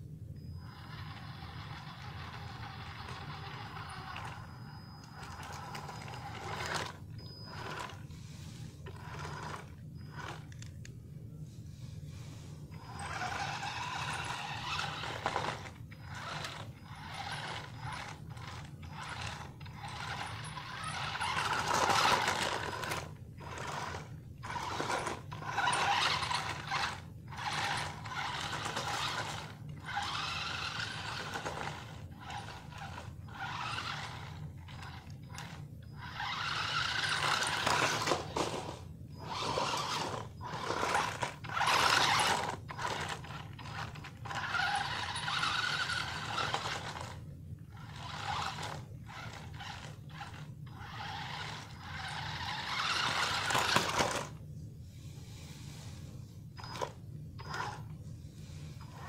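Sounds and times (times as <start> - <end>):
steady low hum: 0.0 - 59.0
toy car electric motors whirring: 0.4 - 11.0, 11.8 - 54.4, 55.2 - 59.0
wheels scraping over stone: 0.6 - 8.1, 8.9 - 10.6, 12.8 - 54.4.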